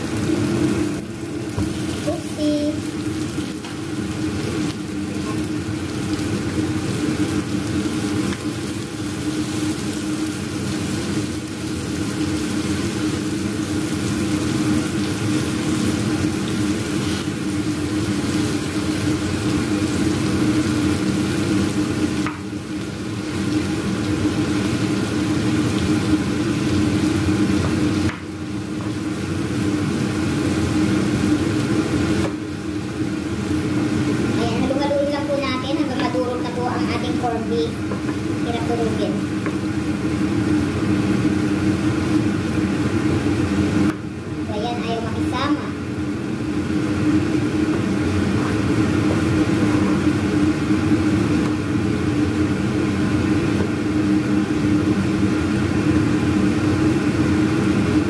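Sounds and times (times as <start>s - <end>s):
kitchen exhaust fan humming: 0.0s - 58.0s
meat and onions sizzling in pan: 0.0s - 58.0s.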